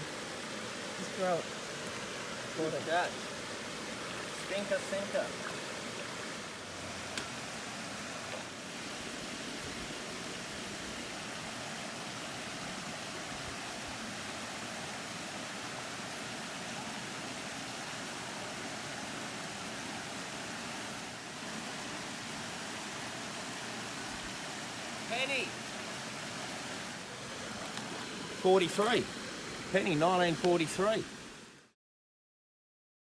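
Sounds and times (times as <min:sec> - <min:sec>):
creek water rushing: 0:00.0 - 0:31.8.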